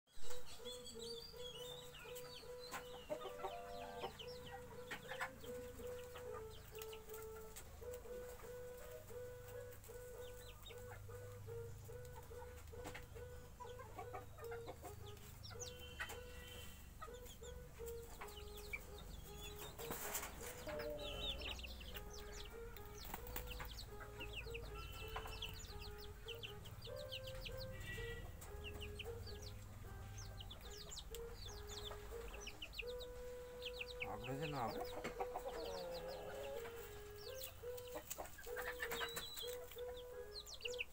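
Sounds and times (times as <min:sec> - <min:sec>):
chicks peeping: 0:00.2 - 0:40.9
hen clucking: 0:00.2 - 0:40.9.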